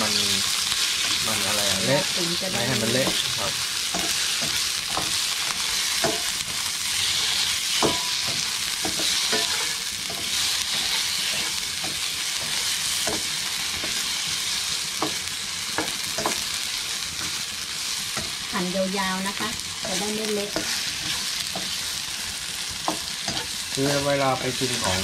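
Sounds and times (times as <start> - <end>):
tofu sizzling in a wok: 0.0 - 25.0
spatula scraping a pan: 0.4 - 18.6, 19.3 - 24.1.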